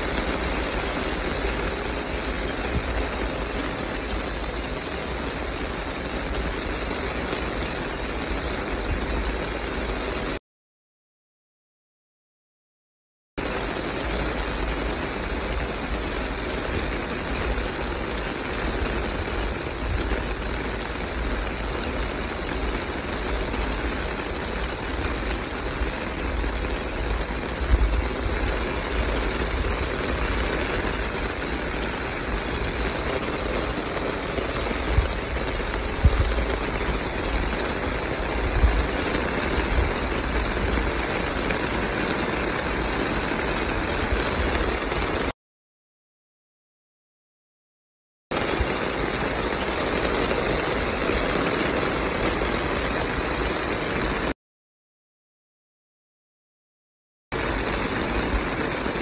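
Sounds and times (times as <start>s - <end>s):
heavy rain hissing: 0.0s - 10.4s, 13.4s - 45.3s, 48.3s - 54.4s, 57.3s - 59.0s.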